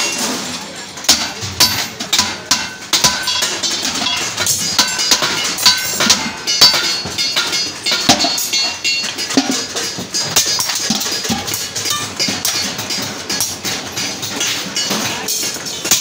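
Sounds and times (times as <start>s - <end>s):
metallic knocks on steel bucket: 1.0s - 16.0s.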